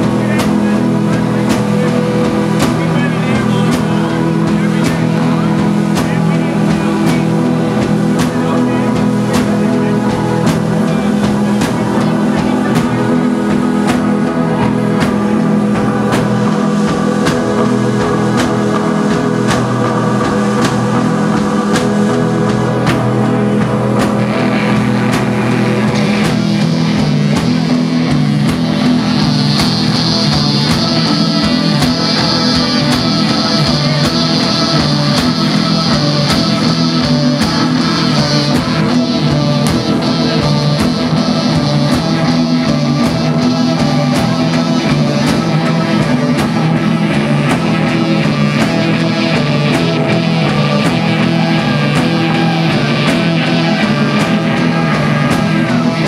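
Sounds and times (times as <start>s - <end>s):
high sustained tone: 0.0s - 56.0s
rock band playing live: 0.0s - 56.0s.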